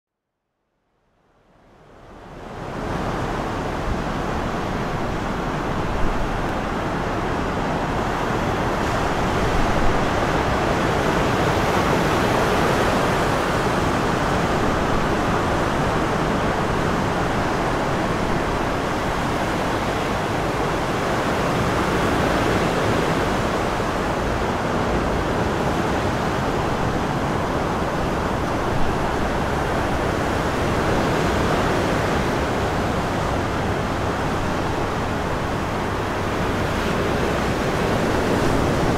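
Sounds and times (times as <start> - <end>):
wind over water: 1.2 - 38.9
waves breaking: 2.1 - 38.9.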